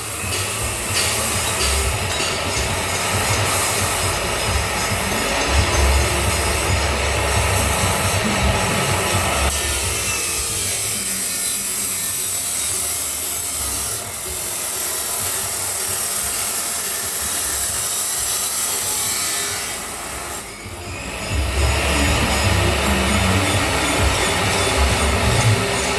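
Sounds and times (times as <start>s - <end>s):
grinder cutting metal pipe: 0.0s - 25.9s.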